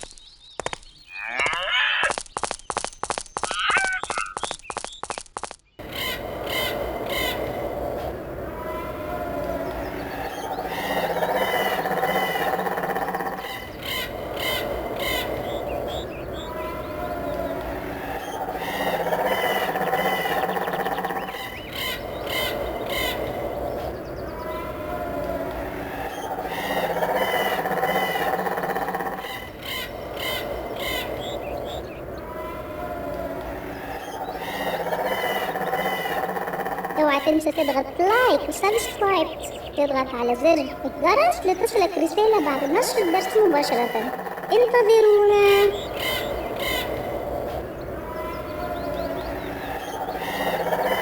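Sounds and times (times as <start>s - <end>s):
crow-like caws: 5.8s - 39.8s, 41.7s - 51.0s.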